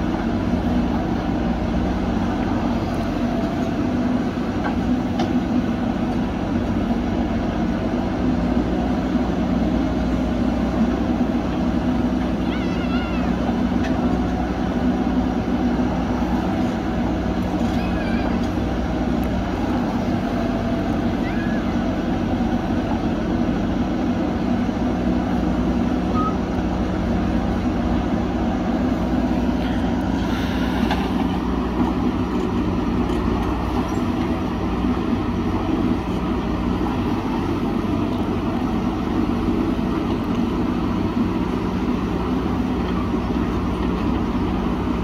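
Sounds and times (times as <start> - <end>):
diesel engines droning: 0.0 - 45.0.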